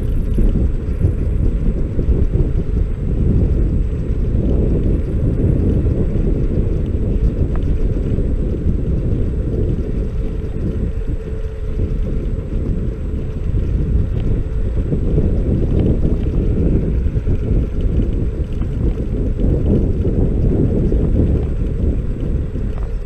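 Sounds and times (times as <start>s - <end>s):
scooter road rumble: 0.0s - 23.0s
wind buffeting microphone: 0.0s - 23.0s.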